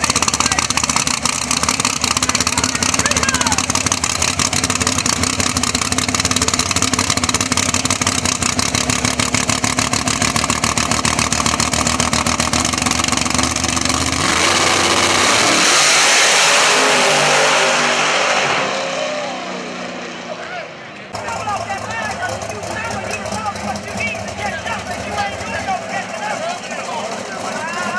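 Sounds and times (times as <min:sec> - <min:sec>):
race car engine roaring: 0:00.0 - 0:27.9.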